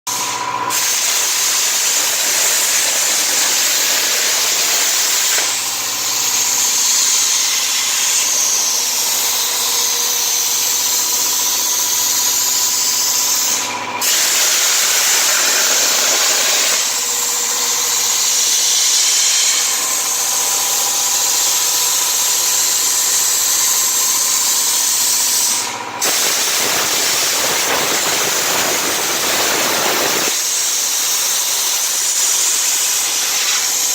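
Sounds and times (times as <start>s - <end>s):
plasma cutter hissing: 0.1s - 33.9s.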